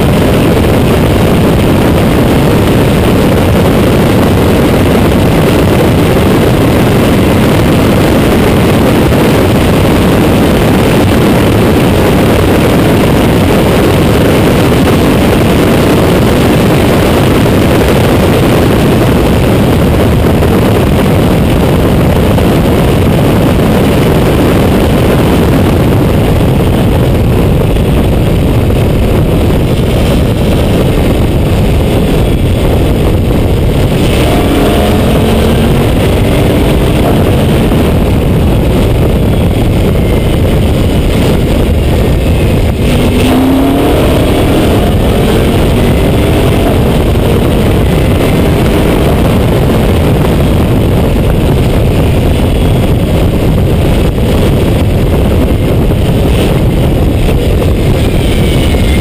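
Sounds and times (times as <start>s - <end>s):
race car engine: 0.0s - 59.0s
wind buffeting microphone: 0.0s - 59.0s.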